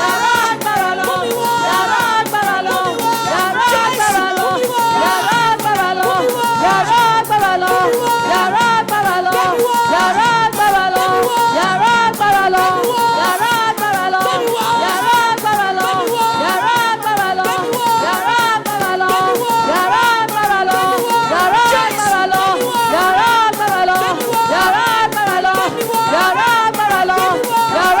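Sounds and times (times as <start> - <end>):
steady shaker rhythm: 0.0 - 28.0
voices singing a melody: 0.0 - 28.0.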